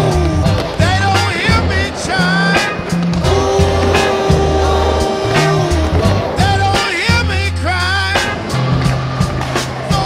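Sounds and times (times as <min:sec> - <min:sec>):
person singing: 0:00.0 - 0:08.3
song with steady bass line: 0:00.0 - 0:10.0.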